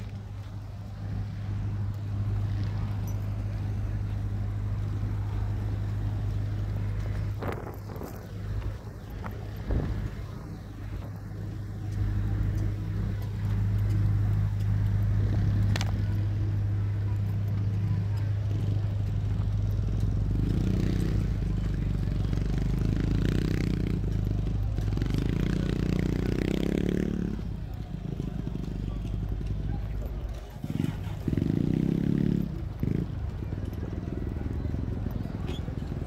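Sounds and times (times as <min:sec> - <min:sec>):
motorcycle engine running: 0:00.0 - 0:36.0
traffic rumble: 0:00.0 - 0:36.0.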